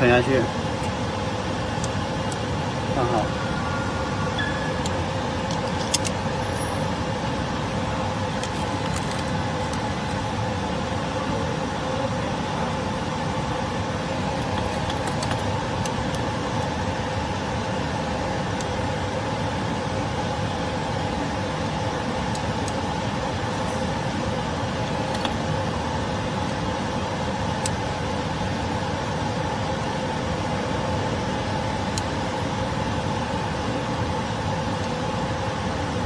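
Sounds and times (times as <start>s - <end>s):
laminating machine humming: 0.0s - 36.0s.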